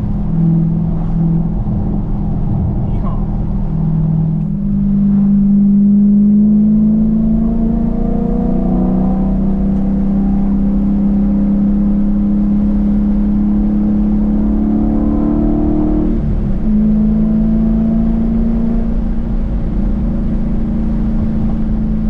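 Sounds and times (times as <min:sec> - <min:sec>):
car engine and exhaust cruising: 0:00.0 - 0:22.0.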